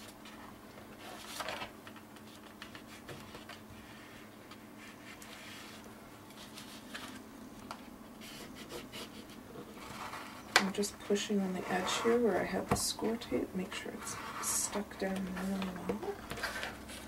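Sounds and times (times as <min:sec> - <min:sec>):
paper scraping and rustling: 0:00.0 - 0:07.3, 0:08.2 - 0:10.5, 0:11.2 - 0:12.6, 0:13.7 - 0:17.0
faint steady hum: 0:00.0 - 0:17.0.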